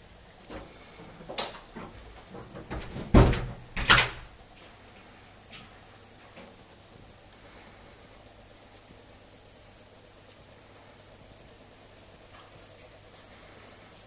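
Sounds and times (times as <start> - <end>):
liquid draining into battery: 0.0 - 14.0.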